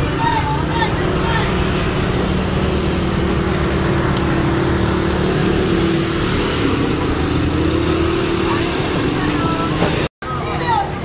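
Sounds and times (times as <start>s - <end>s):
scooter engine humming: 0.0s - 10.1s.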